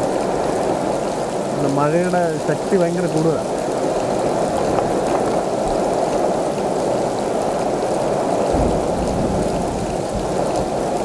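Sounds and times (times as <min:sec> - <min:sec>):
heavy rain on a car roof: 0:00.0 - 0:11.0.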